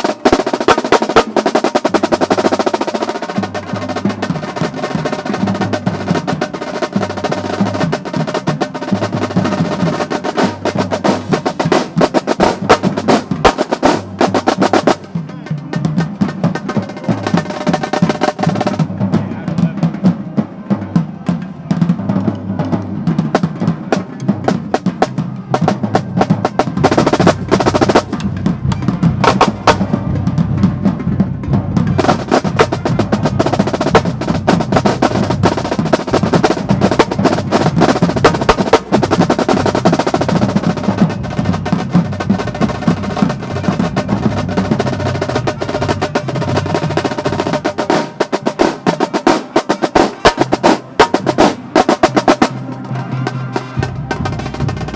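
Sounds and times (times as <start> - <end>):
marching drumline cadence: 0.0 - 54.9.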